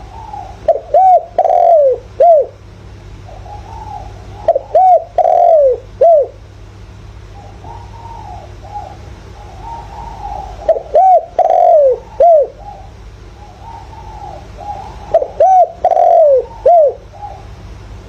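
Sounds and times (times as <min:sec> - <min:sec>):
faint dove cooing: 0:00.0 - 0:02.6, 0:03.2 - 0:06.4, 0:07.3 - 0:17.8
dove cooing: 0:00.0 - 0:06.5, 0:07.2 - 0:17.8.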